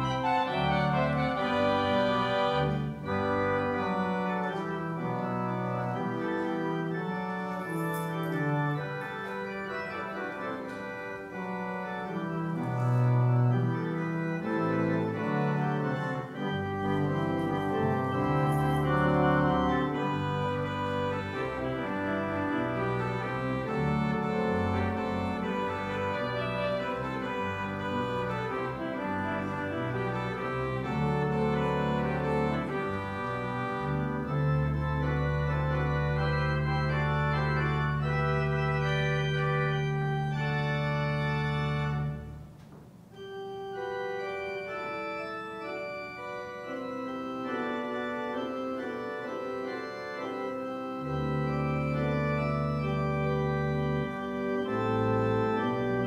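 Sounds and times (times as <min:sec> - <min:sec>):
organ chords: 0:00.0 - 0:56.0.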